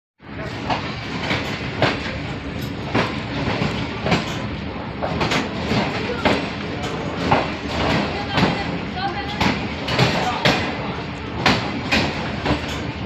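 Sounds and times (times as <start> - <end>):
train wheels clattering over rail joints: 0.2 - 13.0.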